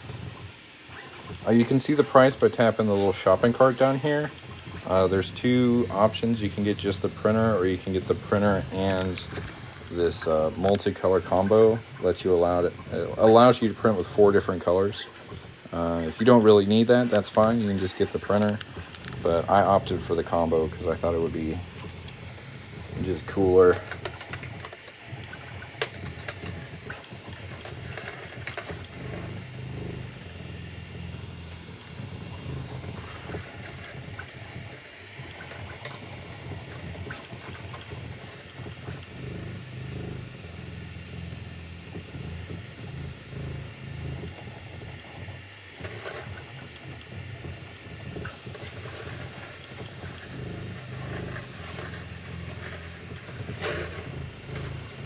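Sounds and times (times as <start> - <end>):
printer stepper motors: 0.0 - 55.0.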